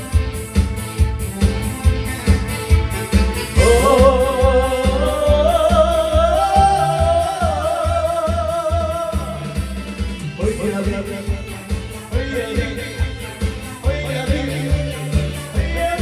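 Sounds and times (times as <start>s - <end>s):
trot accompaniment with steady beat: 0.0s - 16.0s.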